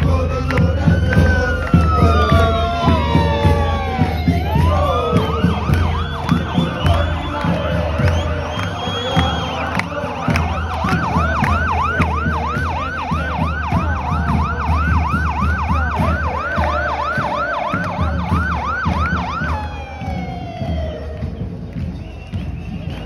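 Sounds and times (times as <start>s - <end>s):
siren yelping: 0.0s - 21.5s.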